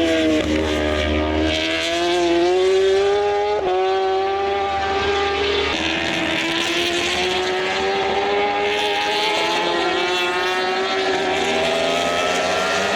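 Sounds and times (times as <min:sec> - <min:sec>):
motorcycle engines at high revs: 0:00.0 - 0:12.9.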